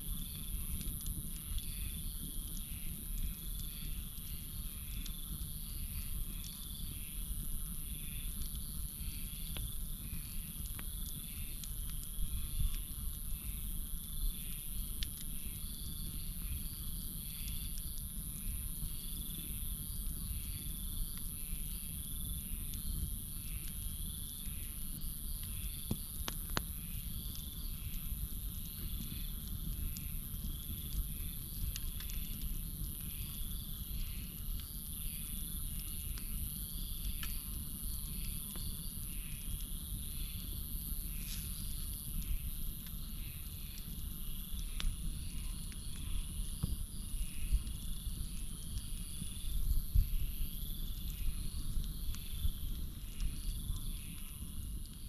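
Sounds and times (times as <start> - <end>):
campfire crackling: 0.0 - 55.0
night insects trilling: 0.0 - 55.0.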